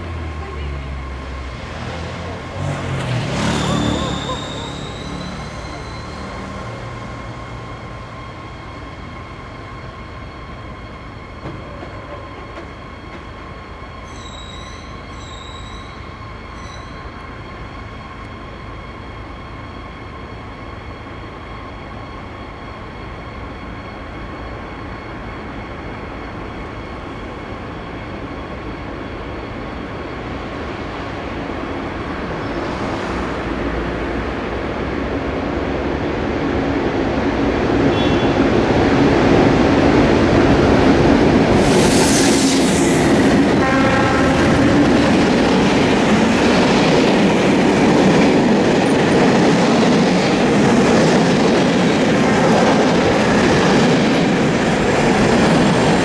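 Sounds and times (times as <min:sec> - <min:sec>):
diesel train engine rumble: 0:00.0 - 0:56.0.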